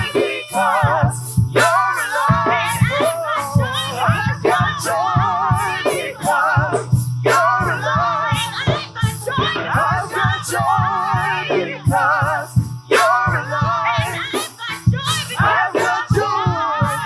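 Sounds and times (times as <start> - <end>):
drum strokes: 0.0 - 17.0
person singing with vibrato: 0.0 - 17.0.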